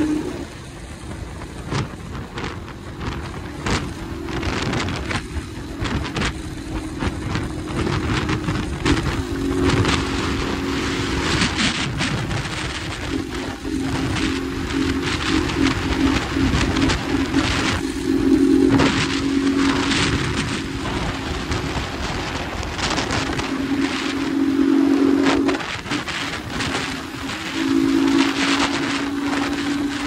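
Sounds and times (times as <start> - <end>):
motorcycle engine running: 0.0 - 30.0
wind buffeting microphone: 0.0 - 30.0.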